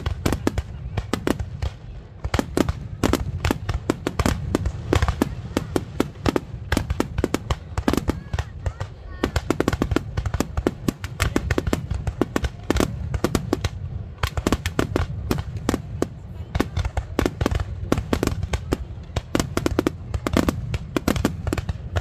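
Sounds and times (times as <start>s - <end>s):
firework bangs: 0.0s - 22.0s.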